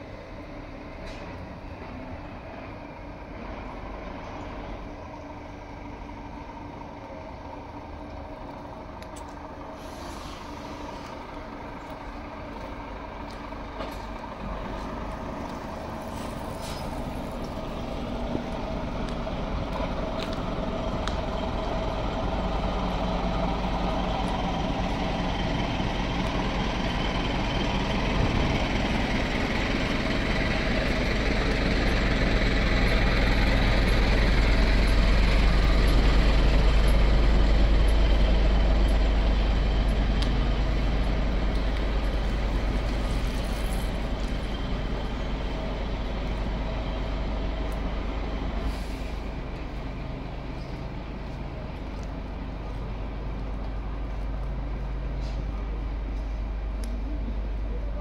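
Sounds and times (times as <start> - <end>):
diesel lorry engine rumbling: 0.0 - 58.0.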